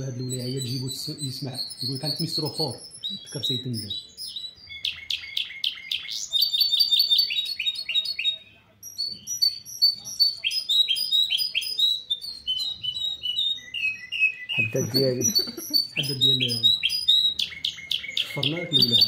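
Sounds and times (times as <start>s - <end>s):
finch singing: 0.0s - 19.0s.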